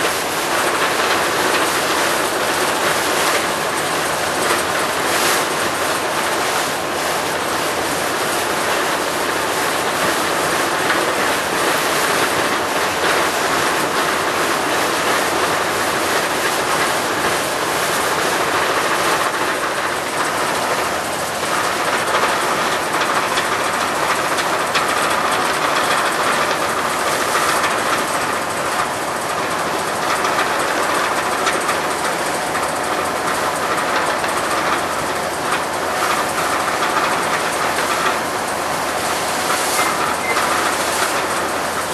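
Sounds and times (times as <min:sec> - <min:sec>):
boat diesel engine clattering: 0:00.0 - 0:41.9
wind: 0:00.0 - 0:41.9.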